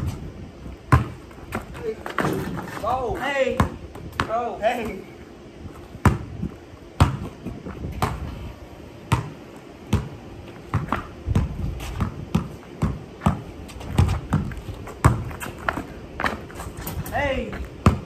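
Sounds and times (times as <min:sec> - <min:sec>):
basketball bouncing on concrete: 0:00.9 - 0:05.1, 0:06.0 - 0:08.4, 0:09.1 - 0:18.0.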